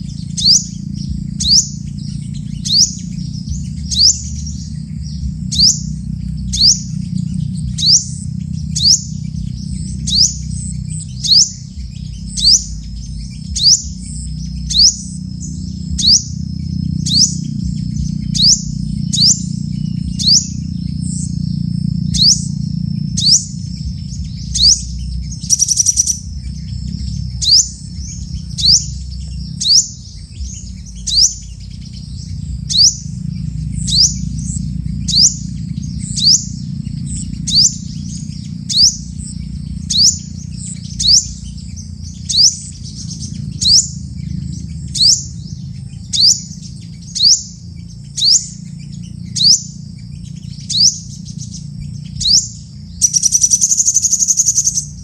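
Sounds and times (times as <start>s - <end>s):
bird trill: 0.0s - 55.0s
low rumble: 0.0s - 55.0s
songbird chirping: 0.0s - 55.0s
thin steady high tone: 0.0s - 55.0s.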